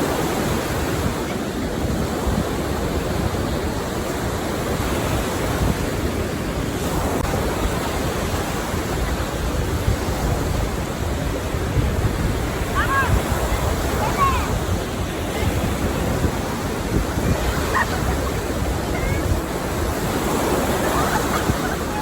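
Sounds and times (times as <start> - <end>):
waves washing onto beach: 0.0 - 22.0
wind rumbling on microphone: 0.0 - 22.0.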